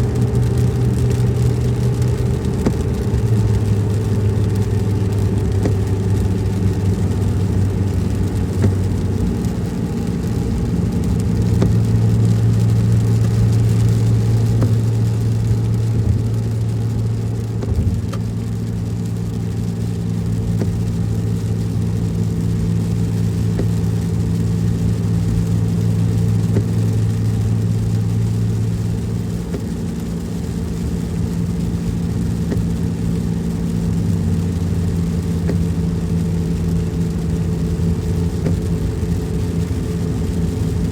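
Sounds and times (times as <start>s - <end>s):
car engine hum: 0.0s - 40.9s
road rumble: 0.0s - 40.9s.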